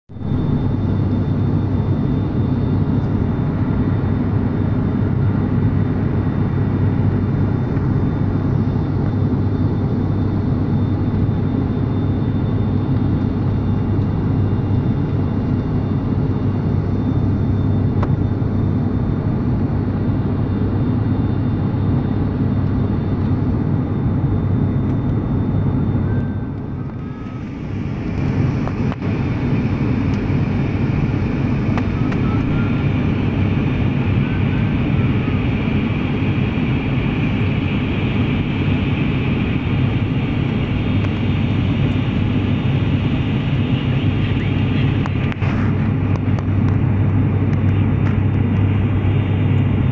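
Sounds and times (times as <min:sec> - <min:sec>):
airliner cabin engine drone: 0:00.1 - 0:49.9
high steady whine: 0:00.1 - 0:49.9.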